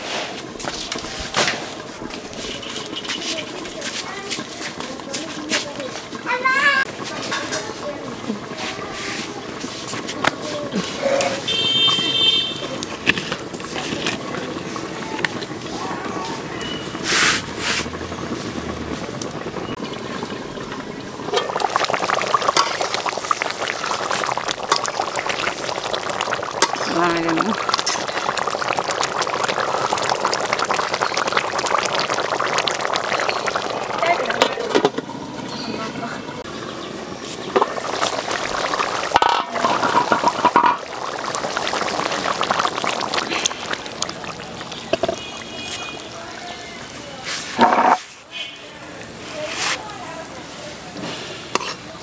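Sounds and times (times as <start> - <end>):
curry bubbling in a pot: 0.0 - 52.0.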